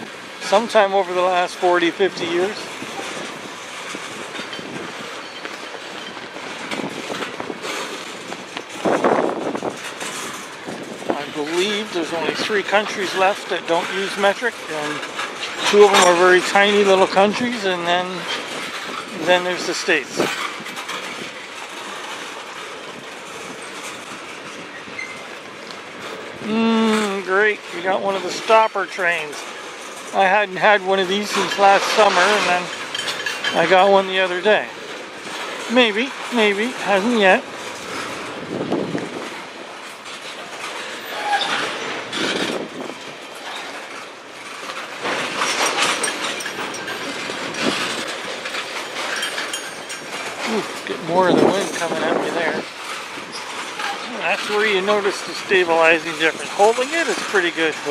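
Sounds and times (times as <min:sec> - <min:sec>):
freight train wheels on track: 0:00.0 - 0:57.9.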